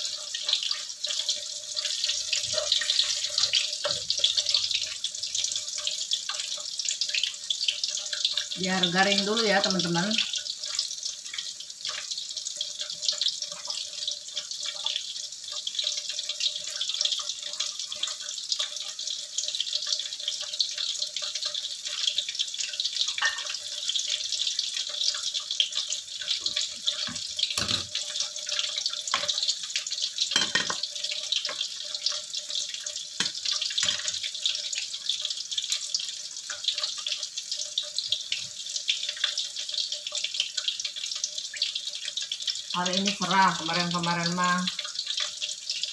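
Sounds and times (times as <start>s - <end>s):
deep-frying sizzle and crackle: 0.0s - 45.9s.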